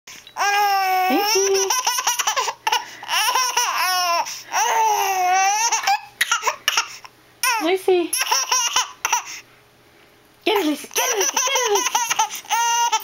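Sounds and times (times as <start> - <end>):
baby laughing and squealing: 0.4 - 9.3, 10.9 - 13.0.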